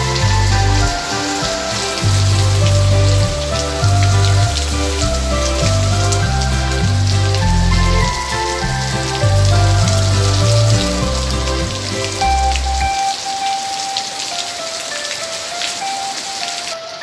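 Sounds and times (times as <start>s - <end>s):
children's song instrumental: 0.0s - 17.0s
steady rain: 0.0s - 17.0s.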